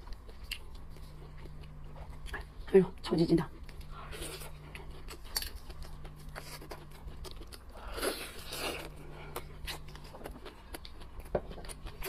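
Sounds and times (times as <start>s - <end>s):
wet biting and chewing: 0.0s - 2.6s, 3.6s - 12.0s.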